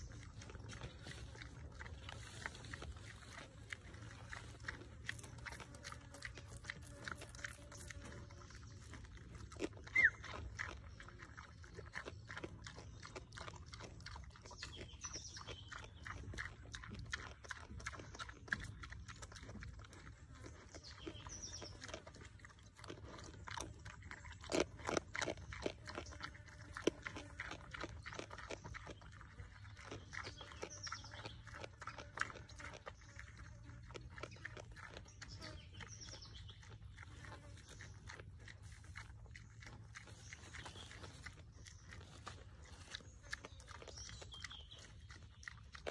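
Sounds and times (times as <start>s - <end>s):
pig crunching and chewing: 0.0s - 45.9s.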